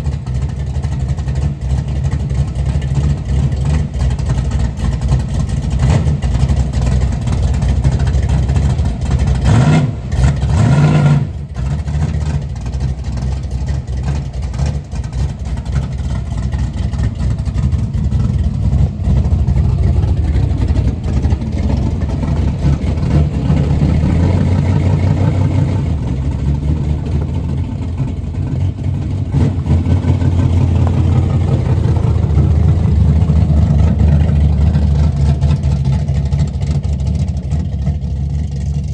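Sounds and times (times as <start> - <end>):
old car engine running: 0.0 - 38.9.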